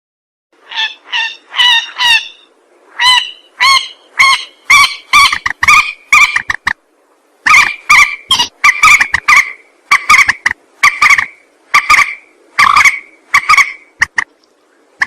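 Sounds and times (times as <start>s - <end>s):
rail bird honking calls: 0.6s - 6.7s, 7.4s - 14.2s.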